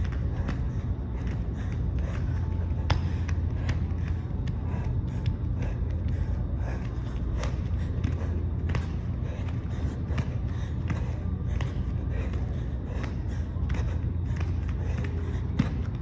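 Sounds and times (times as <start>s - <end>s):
heavy breathing: 0.0s - 16.0s
steady low hum: 0.0s - 16.0s.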